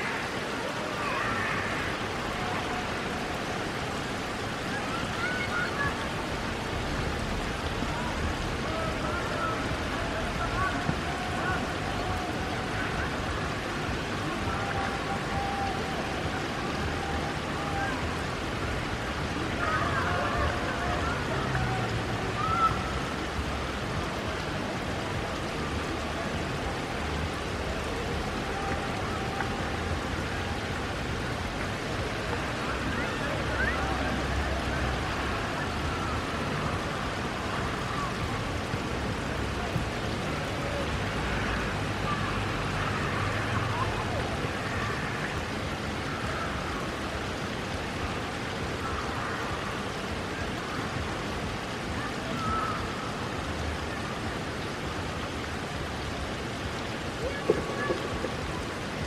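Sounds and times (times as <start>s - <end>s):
steady rain on pavement: 0.0s - 59.0s.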